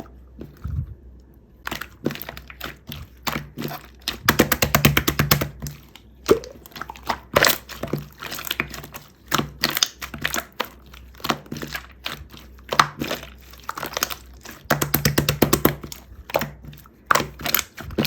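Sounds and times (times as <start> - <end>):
crinkling and crunching handling: 0.0 - 4.7, 5.5 - 18.0.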